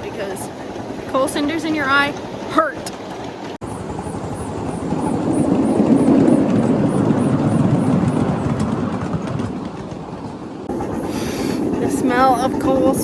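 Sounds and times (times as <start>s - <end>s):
miniature steam train rumbling: 0.0s - 13.0s.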